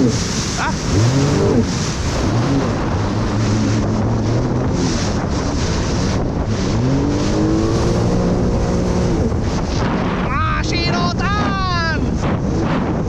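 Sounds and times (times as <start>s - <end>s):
jet ski engine revving: 0.0s - 13.0s
wind on microphone: 0.0s - 13.0s.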